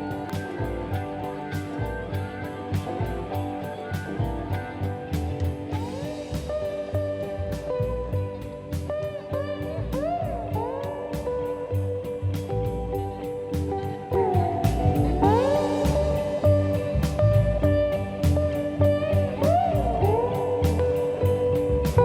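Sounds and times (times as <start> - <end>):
guitar music over steady beat: 0.0 - 22.0.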